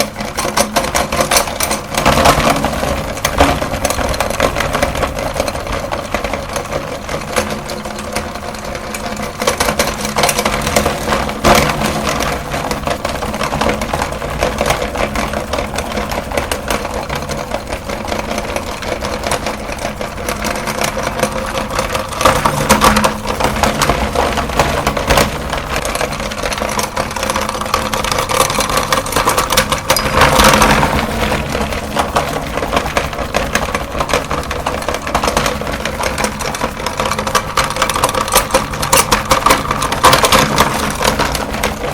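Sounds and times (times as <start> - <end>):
meat grinder motor hum: 0.0 - 41.9.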